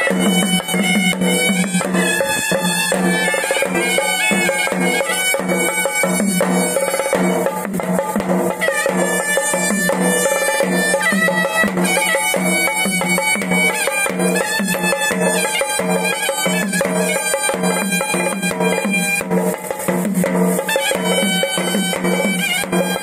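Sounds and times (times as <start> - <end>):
shrill wind instrument: 0.0 - 19.6, 20.5 - 23.0
steady drumbeat: 0.0 - 23.0.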